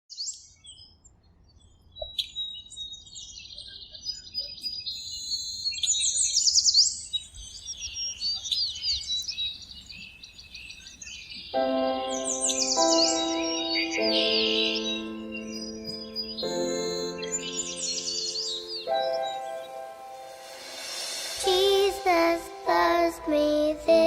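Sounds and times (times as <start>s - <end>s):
birds singing and calling: 0.2s - 20.1s.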